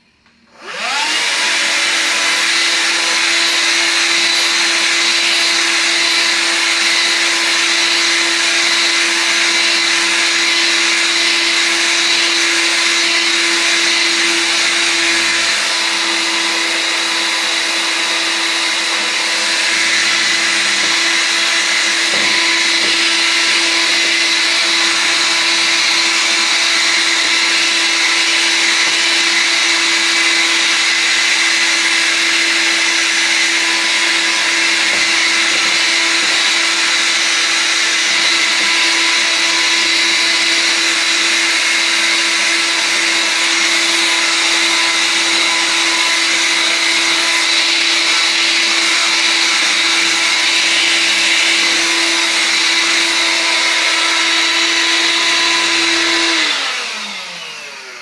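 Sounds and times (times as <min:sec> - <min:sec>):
handheld vacuum cleaner running: 0:00.0 - 0:58.0
vacuum motor winding down: 0:00.2 - 0:58.0.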